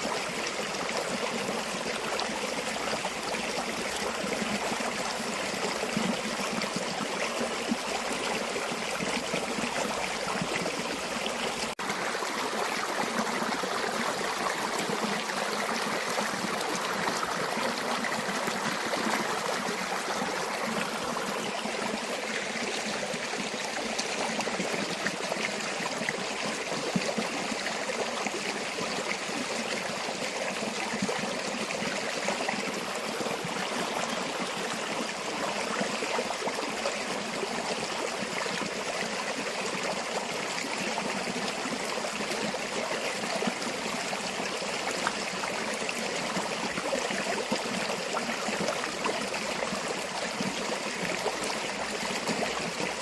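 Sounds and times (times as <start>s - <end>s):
stream water trickling: 0.0s - 53.0s.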